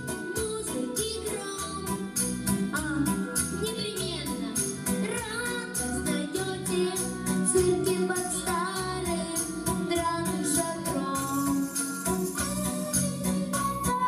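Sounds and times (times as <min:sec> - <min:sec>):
musical accompaniment with beat: 0:00.0 - 0:14.0.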